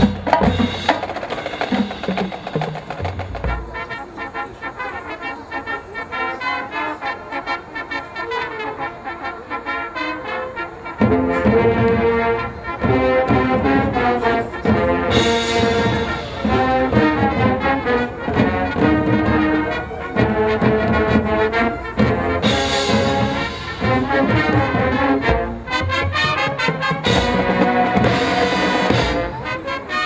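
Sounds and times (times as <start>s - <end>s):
marching band playing: 0.0s - 30.0s
sustained brass chords: 0.0s - 30.0s.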